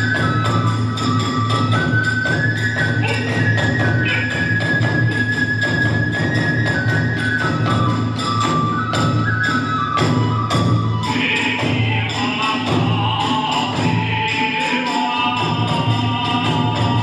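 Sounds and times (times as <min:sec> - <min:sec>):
bamboo flute high notes: 0:00.0 - 0:17.0.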